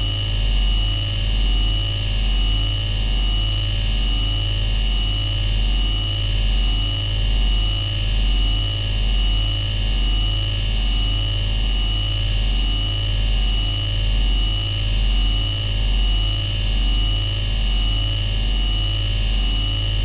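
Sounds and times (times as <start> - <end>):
pulsing electric hum: 0.0 - 20.0.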